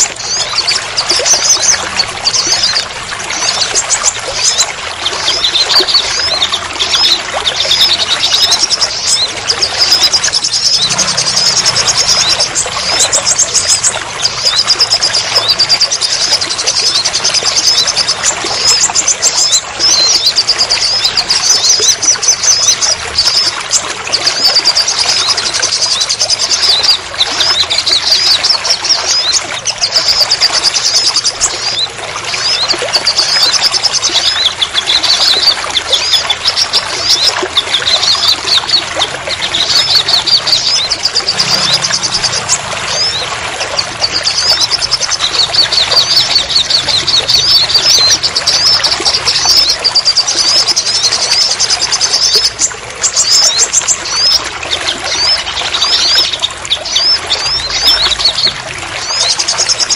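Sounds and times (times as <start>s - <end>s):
high-pitched twittering birdsong: 0.0s - 59.9s.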